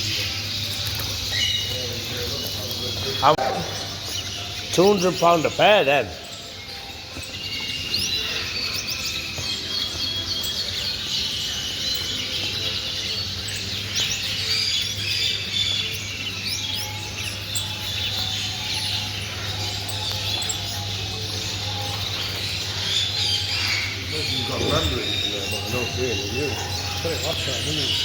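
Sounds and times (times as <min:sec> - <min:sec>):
cage birds chirping and twittering: 0:00.0 - 0:28.0.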